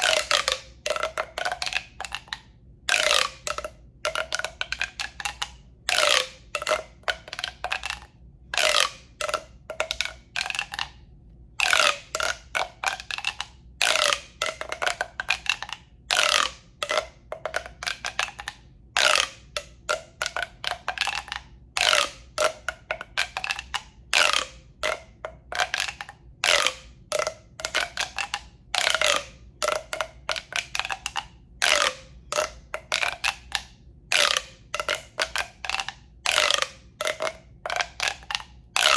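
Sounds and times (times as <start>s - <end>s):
tube being handled clicking: 0.0s - 11.0s, 11.6s - 38.9s.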